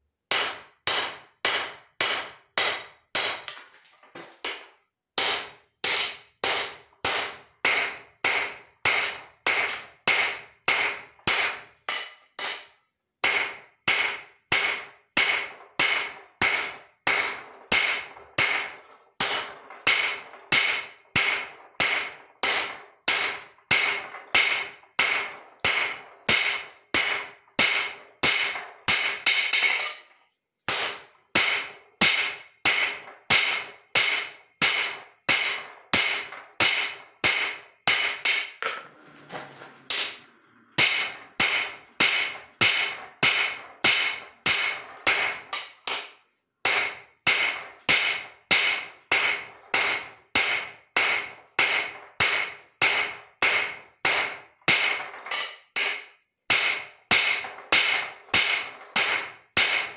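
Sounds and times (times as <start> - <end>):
hammer striking steel on anvil: 0.3 - 3.6, 4.4 - 38.9, 39.9 - 59.9.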